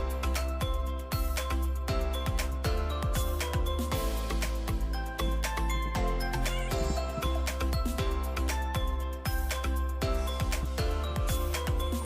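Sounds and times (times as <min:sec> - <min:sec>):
electronic music with synth: 0:00.0 - 0:12.0.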